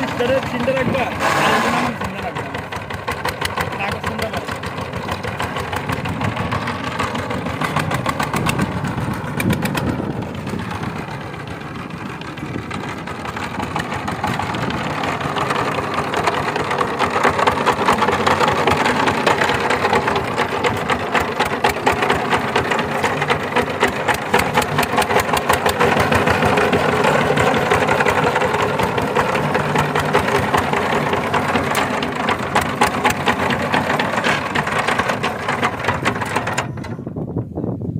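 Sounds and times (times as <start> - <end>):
diesel engine knocking: 0.0 - 37.3.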